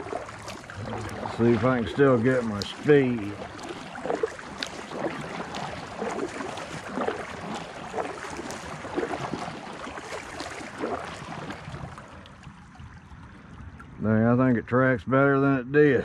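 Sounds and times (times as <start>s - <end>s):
water dripping off paddle: 0.0s - 14.0s
kayak paddle strokes in water: 0.0s - 14.6s.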